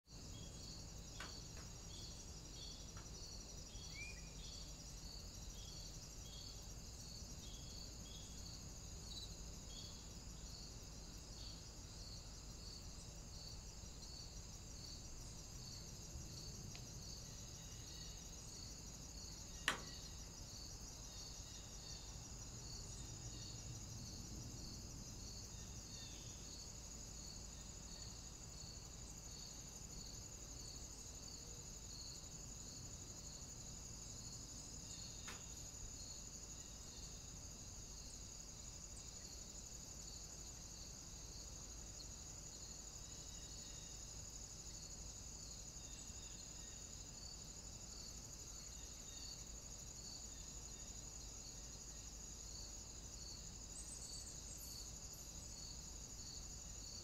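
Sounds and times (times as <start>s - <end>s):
insect chirp: 0.0s - 57.0s.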